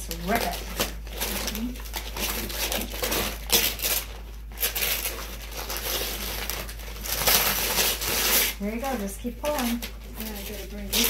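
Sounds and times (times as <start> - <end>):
wrapping paper tearing and crinkling: 0.0 - 11.0.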